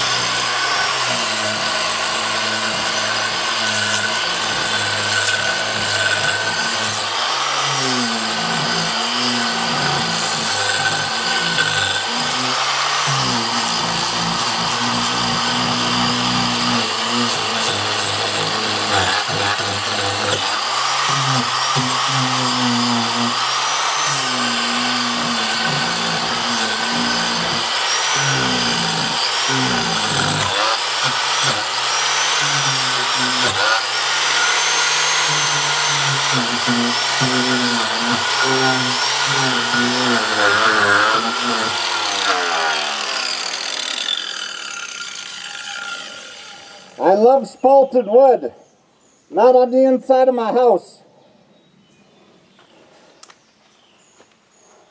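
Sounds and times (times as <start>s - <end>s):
power tool cutting wood: 0.0s - 47.4s.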